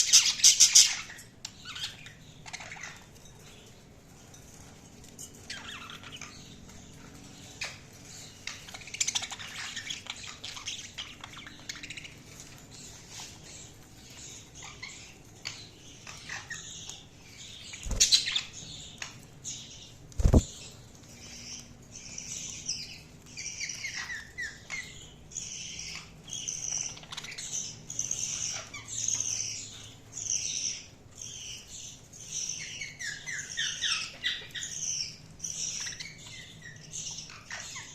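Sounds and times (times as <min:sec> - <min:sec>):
budgerigars chirping: 0:00.0 - 0:03.6, 0:05.4 - 0:12.9, 0:13.5 - 0:37.9.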